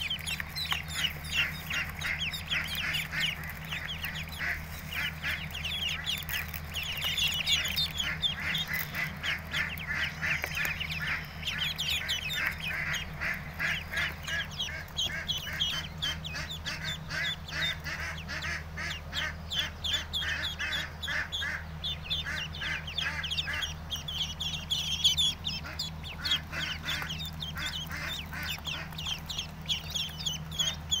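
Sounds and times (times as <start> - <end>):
ducklings peeping: 0.0 - 31.0
steady low hum: 0.0 - 31.0.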